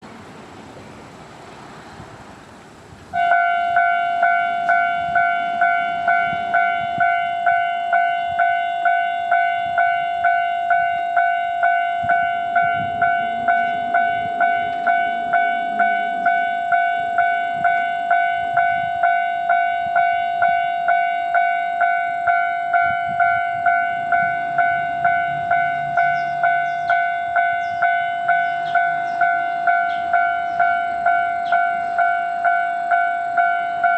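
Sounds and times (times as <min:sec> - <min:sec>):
railroad crossing warning bell: 0:03.1 - 0:33.9.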